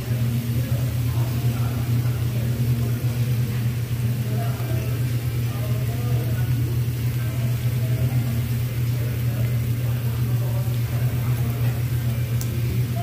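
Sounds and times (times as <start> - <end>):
faint background voices: 0.0 - 13.0
low mechanical hum: 0.0 - 13.0.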